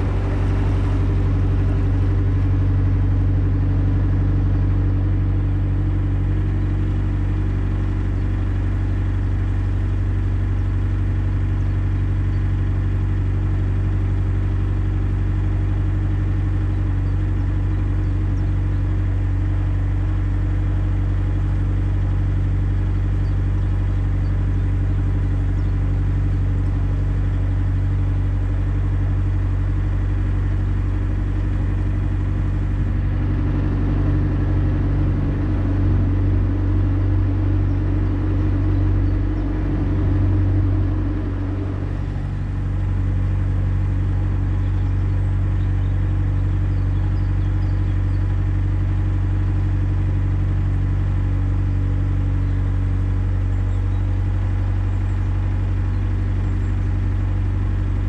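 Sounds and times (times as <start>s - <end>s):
boat diesel engine throbbing: 0.0s - 58.0s.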